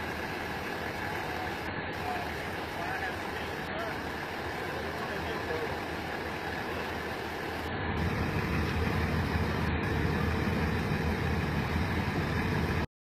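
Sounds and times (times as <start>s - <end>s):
trucks driving through water: 0.0s - 12.9s.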